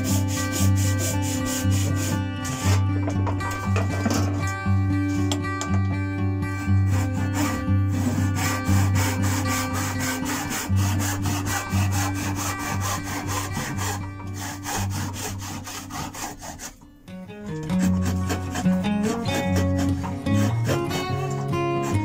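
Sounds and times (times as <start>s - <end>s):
hand saw cutting wood: 0.0s - 2.9s, 6.6s - 16.9s, 17.5s - 22.0s
acoustic guitar music: 0.0s - 22.0s.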